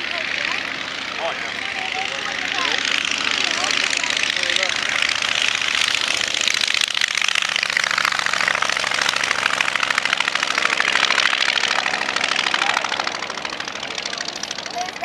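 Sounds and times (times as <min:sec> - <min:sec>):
radial aircraft engine at full power: 0:00.0 - 0:15.0.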